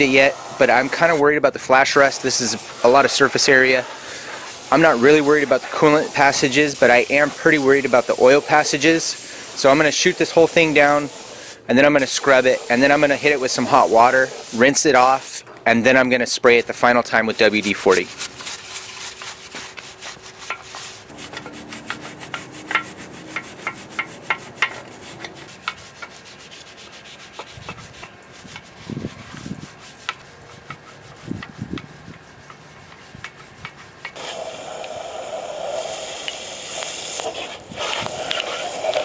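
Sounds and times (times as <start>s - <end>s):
hose water spray hissing: 0.0s - 39.0s
wire brush scrubbing metal: 0.0s - 39.0s.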